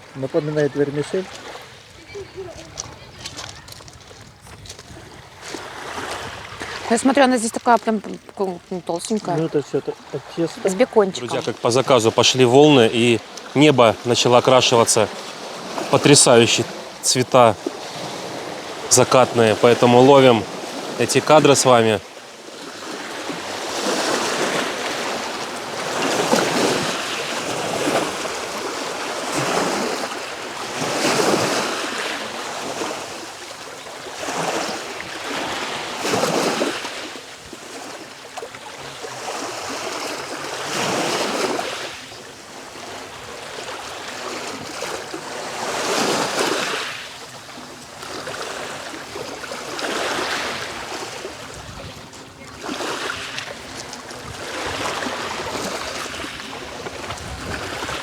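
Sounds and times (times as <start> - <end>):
waves breaking on shore: 0.0 - 58.0.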